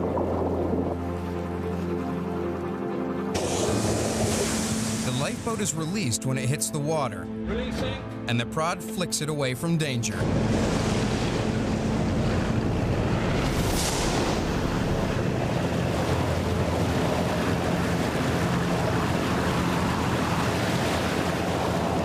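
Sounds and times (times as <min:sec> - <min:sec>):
rough sea waves: 0:00.0 - 0:06.2, 0:09.9 - 0:22.0
boat engine hum: 0:00.0 - 0:22.0.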